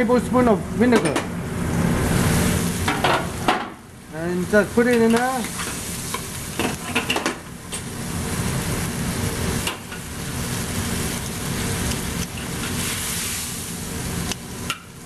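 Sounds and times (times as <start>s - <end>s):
food sizzling in a wok: 1.4s - 4.4s, 5.2s - 15.0s.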